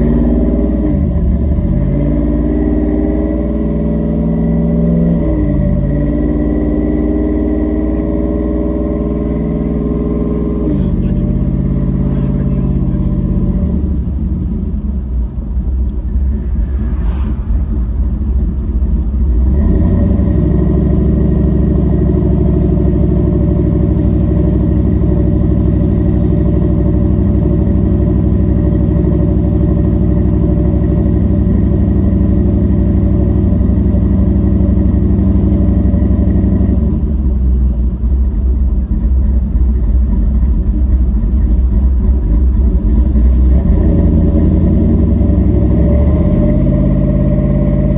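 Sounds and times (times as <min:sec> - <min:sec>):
engine running from inside cab: 0:00.0 - 0:47.9.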